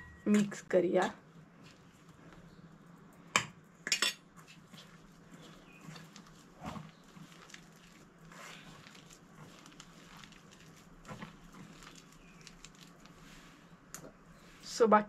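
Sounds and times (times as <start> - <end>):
hand mixing dough rubbing: 1.2 - 3.1, 4.3 - 15.0.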